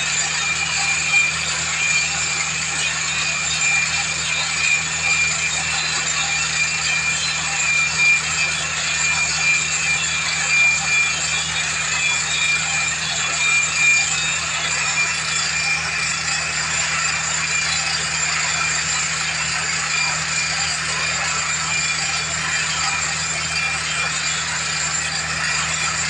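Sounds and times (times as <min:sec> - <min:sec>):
drilling machine engine hum: 0:00.0 - 0:26.0.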